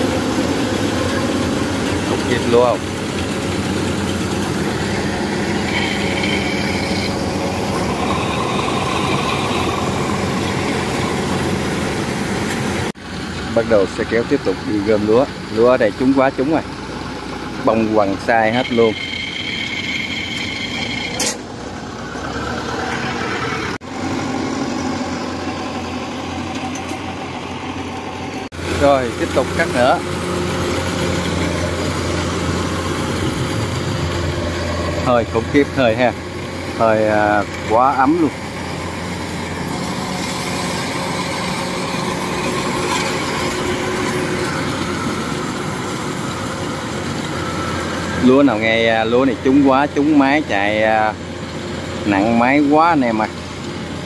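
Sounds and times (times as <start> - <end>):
engine running: 0.0 - 54.0
high whine: 0.0 - 54.0.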